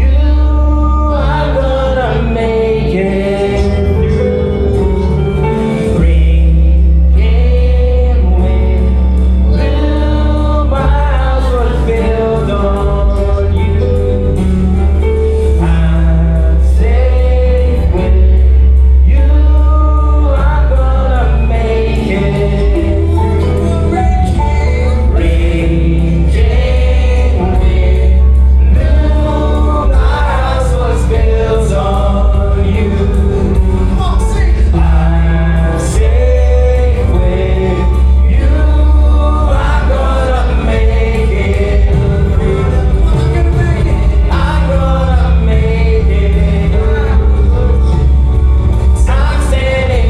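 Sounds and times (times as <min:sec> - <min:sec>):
gospel choir singing with band: 0:00.0 - 0:50.0
steady bass: 0:00.0 - 0:50.0.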